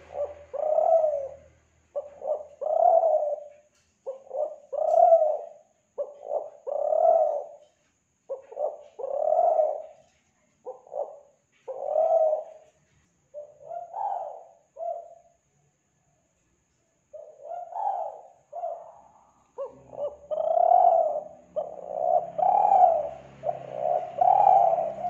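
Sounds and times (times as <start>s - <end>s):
dove cooing: 0.0s - 15.3s, 17.1s - 25.0s.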